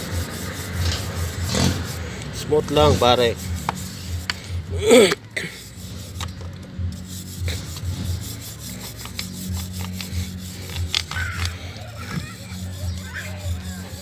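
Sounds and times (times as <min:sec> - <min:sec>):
wire brush scrubbing chain: 0:00.0 - 0:04.4, 0:05.4 - 0:14.0.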